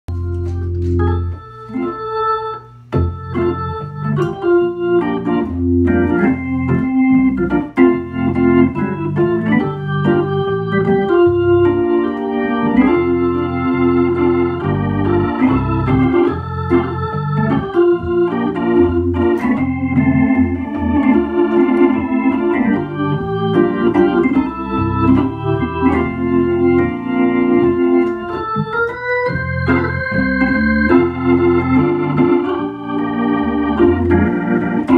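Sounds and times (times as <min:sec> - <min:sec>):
low organ bass notes: 0:00.1 - 0:34.9
organ chords: 0:00.1 - 0:34.9.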